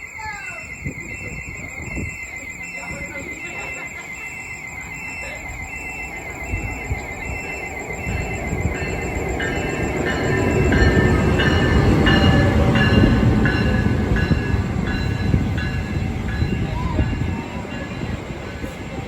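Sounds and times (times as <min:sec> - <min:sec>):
wheels and brakes squealing: 0:00.0 - 0:19.0
train rumble and clatter: 0:00.2 - 0:19.0.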